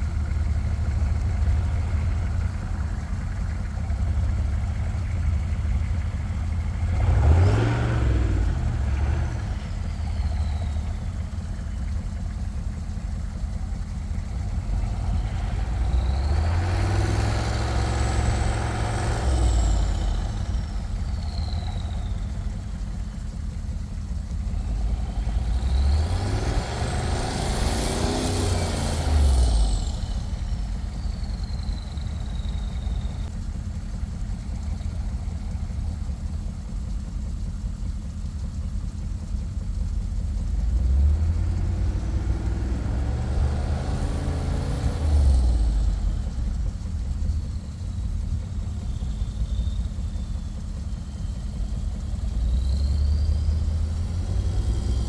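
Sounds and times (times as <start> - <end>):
vehicle engine revving: 0.0 - 33.6, 38.5 - 55.0.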